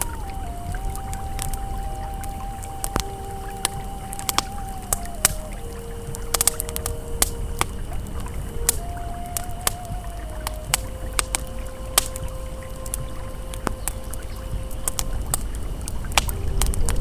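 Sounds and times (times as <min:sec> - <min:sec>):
campfire crackling and popping: 0:00.0 - 0:17.0
flowing river: 0:00.0 - 0:17.0
soft ambient music: 0:00.0 - 0:17.0.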